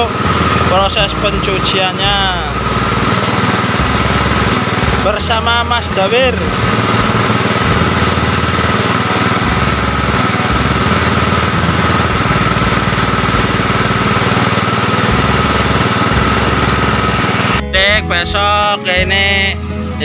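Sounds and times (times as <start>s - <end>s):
water jet spraying: 0.0s - 17.6s
pressure washer engine running: 0.0s - 17.7s.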